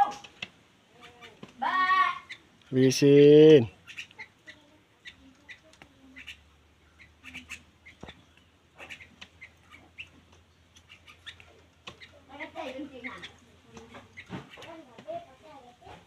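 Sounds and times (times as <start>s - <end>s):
bird chirping: 1.0s - 14.8s.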